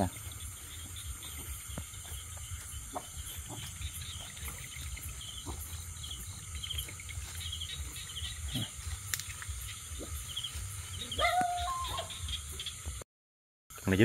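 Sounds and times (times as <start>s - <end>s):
rustling through bushes: 0.0s - 12.2s
insects chirping trills: 0.0s - 13.0s
steady high drone: 0.0s - 13.0s.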